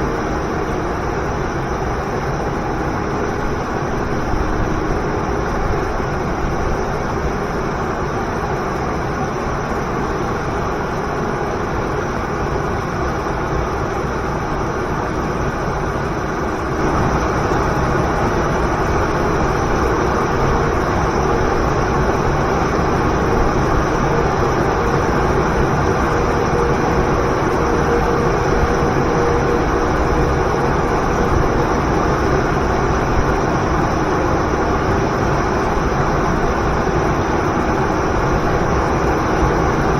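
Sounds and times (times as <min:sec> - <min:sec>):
faint steady tones: 0:00.0 - 0:39.9.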